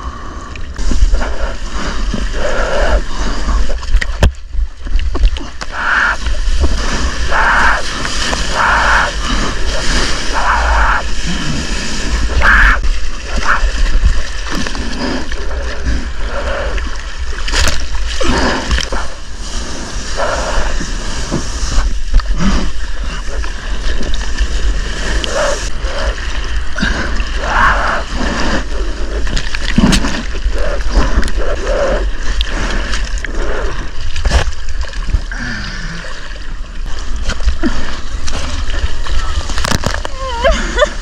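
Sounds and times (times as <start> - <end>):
water splashing around surfboard: 0.6 - 41.0.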